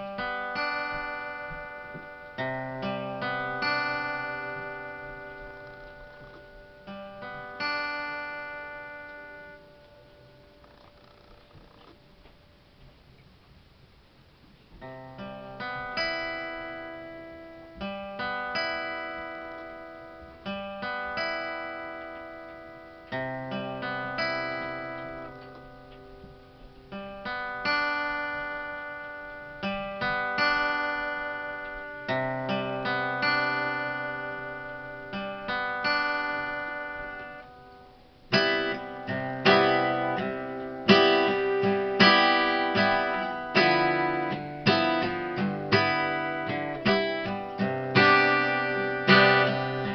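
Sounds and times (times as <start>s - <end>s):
solo acoustic guitar: 0.0s - 49.9s.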